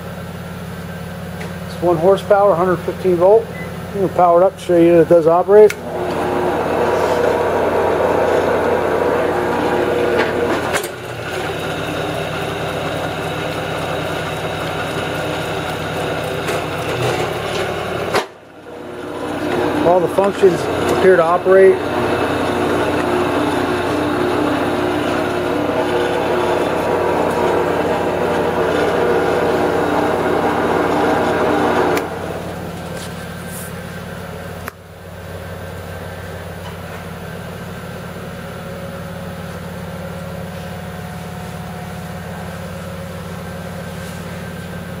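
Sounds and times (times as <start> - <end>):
drill press motor humming: 1.3 - 45.0.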